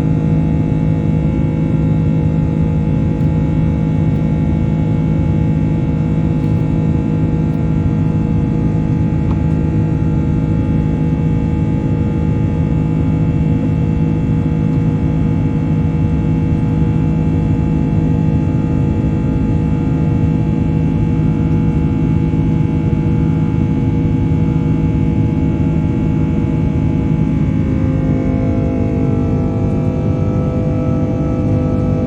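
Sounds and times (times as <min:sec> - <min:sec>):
jet engine roar in cabin: 0:00.0 - 0:32.0.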